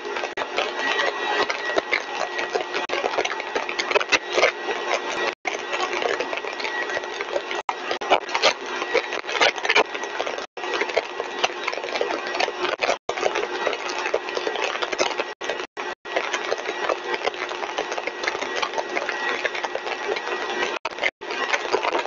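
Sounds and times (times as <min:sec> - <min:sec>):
crackling: 0:00.0 - 0:22.0.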